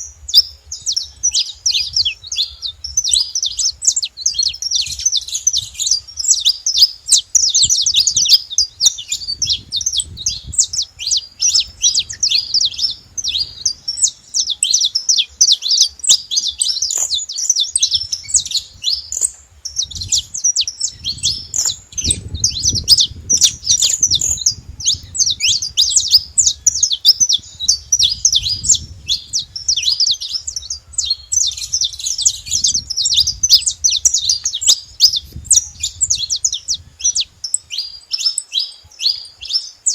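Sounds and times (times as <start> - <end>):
finch chirping rapidly: 0.0 - 39.9.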